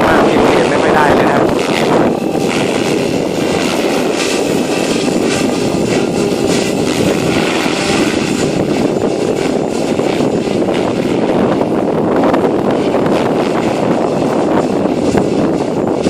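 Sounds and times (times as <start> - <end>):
rc helicopter rotor noise: 0.0 - 16.0
wind buffeting microphone: 0.0 - 16.0.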